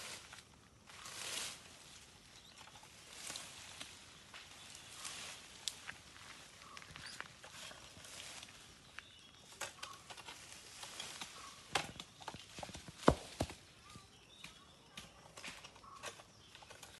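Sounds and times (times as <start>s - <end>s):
rustling foliage: 0.0s - 17.0s.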